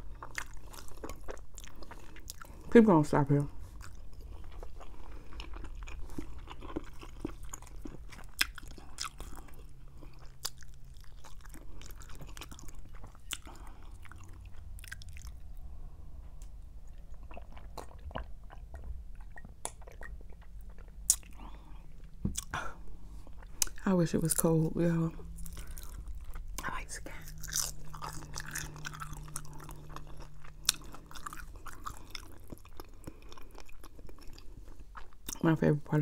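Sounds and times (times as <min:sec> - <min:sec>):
close-up chewing: 0:00.0 - 0:35.5
faint low hum: 0:00.0 - 0:36.0.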